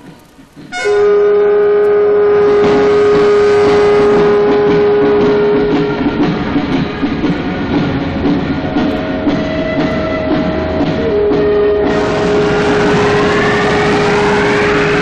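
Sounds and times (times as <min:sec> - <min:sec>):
film score music: 0:00.0 - 0:15.0
sustained orchestral note: 0:00.0 - 0:15.0.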